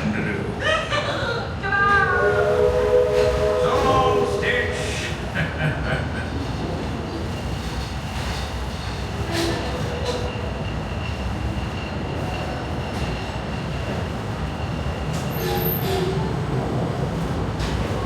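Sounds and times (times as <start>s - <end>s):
train wheels rumbling: 0.0s - 18.0s.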